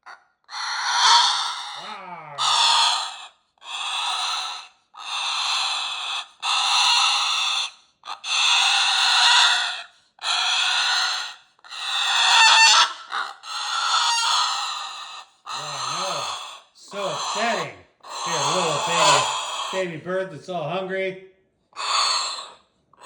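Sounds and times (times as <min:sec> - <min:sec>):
cockatoo chick harsh rasping calls: 0:00.0 - 0:19.9, 0:21.7 - 0:23.0.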